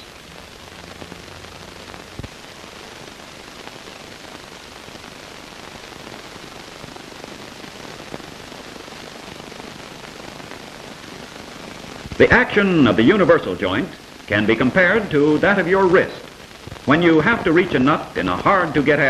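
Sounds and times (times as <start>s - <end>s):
faint crackles and pops: 0.0s - 19.0s
film soundtrack hiss: 0.0s - 19.0s.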